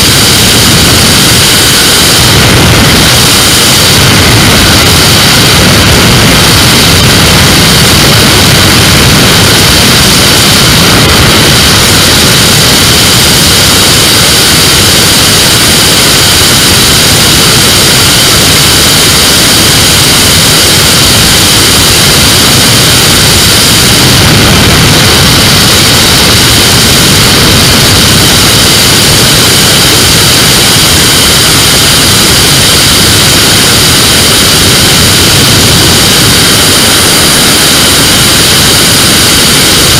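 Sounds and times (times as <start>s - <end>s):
microlight engine and propeller: 0.0s - 39.9s
wind rush over microphone: 0.0s - 39.9s.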